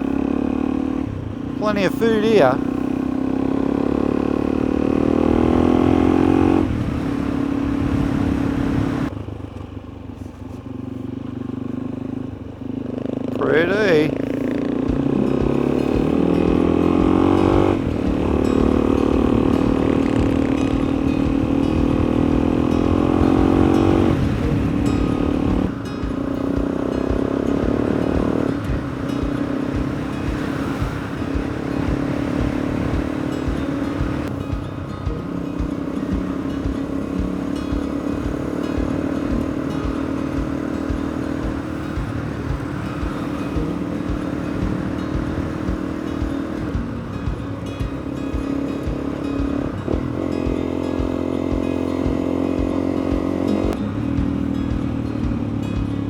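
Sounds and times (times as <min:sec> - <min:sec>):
dirt bike engine running: 0:00.0 - 0:56.0
wind noise: 0:04.1 - 0:09.2, 0:14.1 - 0:56.0.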